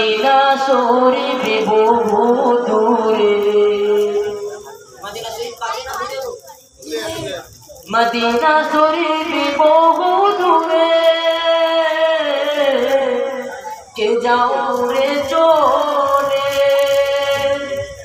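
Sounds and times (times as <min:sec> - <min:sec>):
man singing unaccompanied: 0:00.0 - 0:04.7, 0:07.8 - 0:18.0.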